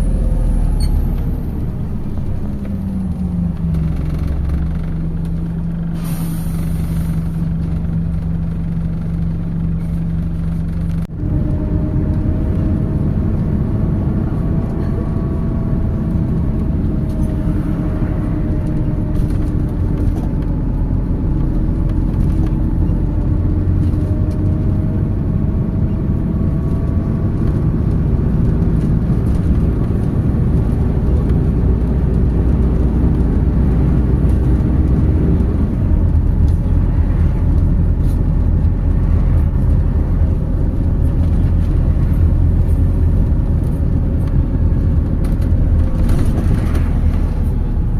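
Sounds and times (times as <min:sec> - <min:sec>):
bus driving with whine: 0:00.0 - 0:47.9
bus engine humming: 0:00.0 - 0:47.9.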